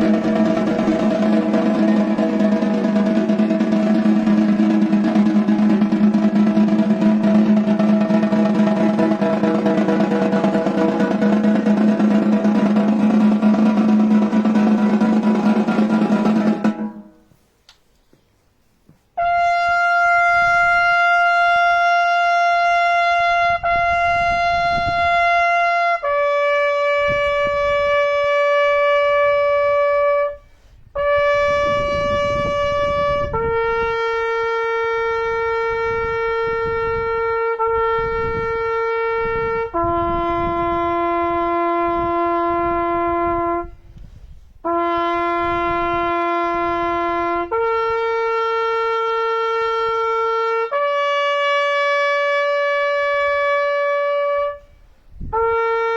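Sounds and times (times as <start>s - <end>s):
wind instrument long held notes: 0.0s - 17.4s, 19.2s - 55.9s.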